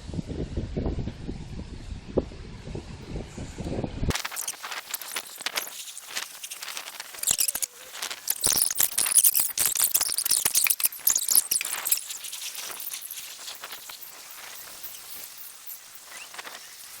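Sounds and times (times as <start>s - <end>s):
wind rustling leaves: 2.6s - 17.0s.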